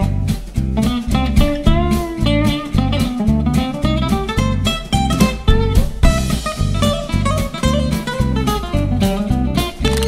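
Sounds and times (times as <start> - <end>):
guitar-led instrumental music: 0.0 - 10.0
pulsing bass beat: 0.0 - 10.0.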